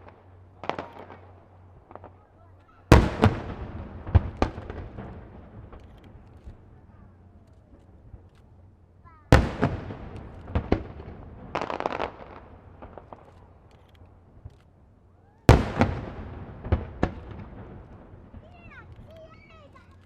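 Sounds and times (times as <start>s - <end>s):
fireworks bangs: 0.0s - 8.3s, 9.1s - 14.5s, 15.4s - 20.0s
fireworks crackling: 0.0s - 20.0s.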